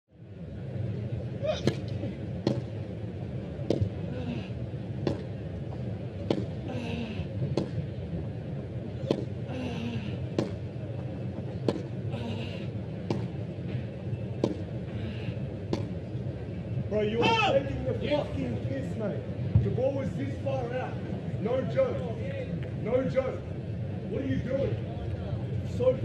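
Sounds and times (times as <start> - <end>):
crowd hum: 0.1 - 26.0.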